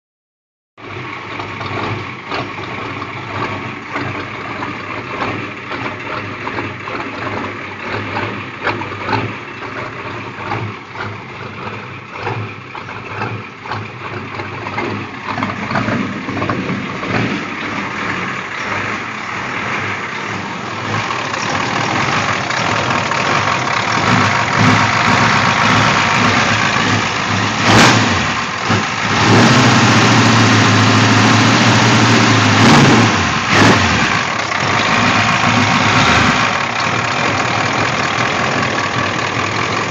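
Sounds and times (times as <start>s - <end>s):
diesel engine idling roughly: 0.8s - 39.9s.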